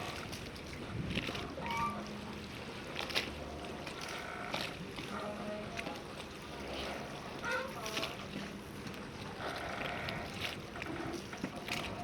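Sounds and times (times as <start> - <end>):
low boat engine hum: 0.0 - 12.0
water sounds: 0.0 - 12.0.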